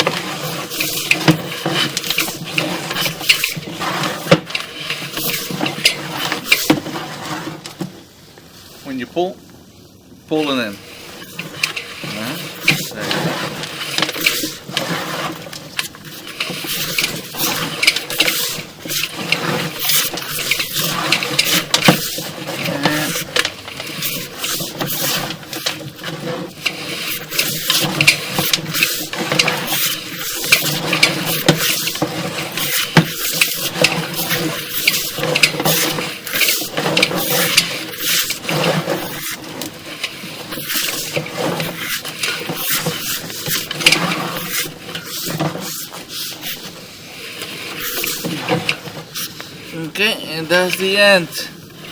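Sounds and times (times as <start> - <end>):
camera cable scraping in pipe: 0.0 - 8.9, 10.3 - 51.9.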